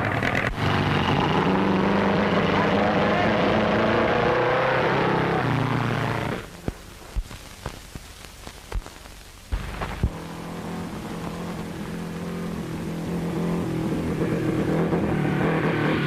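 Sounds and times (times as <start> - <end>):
car engine running: 0.0 - 6.8, 9.6 - 16.0.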